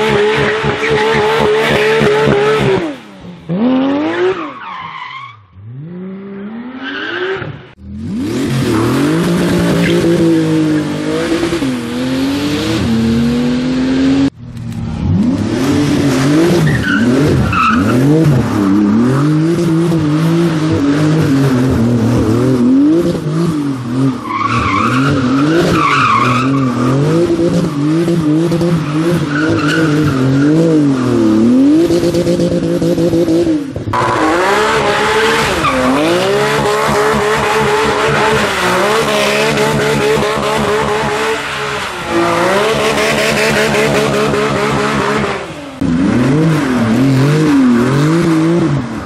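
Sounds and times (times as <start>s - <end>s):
sports car engines revving: 0.0s - 4.6s, 5.5s - 49.0s
tyres skidding and squealing: 0.0s - 32.3s, 33.7s - 49.0s.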